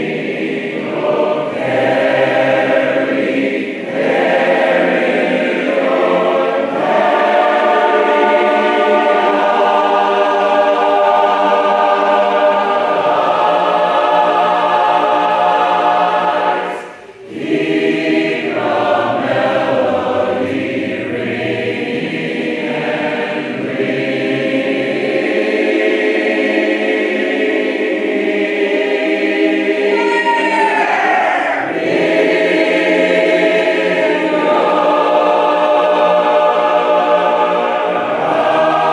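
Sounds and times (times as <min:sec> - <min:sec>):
crowd singing slow song: 0:00.0 - 0:38.9.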